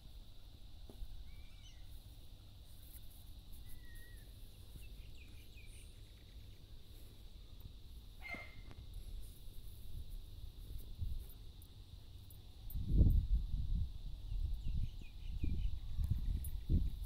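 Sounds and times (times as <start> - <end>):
faint steady high tone: 1.2 - 17.0.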